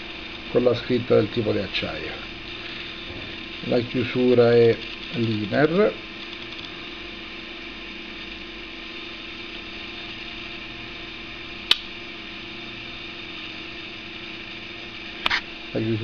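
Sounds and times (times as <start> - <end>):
faint hiss and hum: 0.0 - 16.0.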